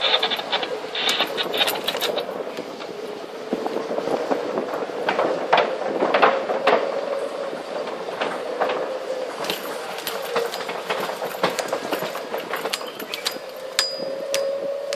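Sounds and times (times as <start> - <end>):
buggy rolling with steady hum: 0.0 - 14.9
wheels clacking over bridge planks: 0.0 - 14.9.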